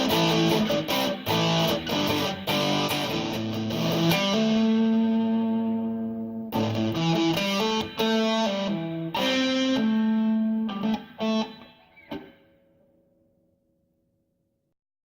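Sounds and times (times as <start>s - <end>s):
overdriven electric guitar chords: 0.0s - 12.5s.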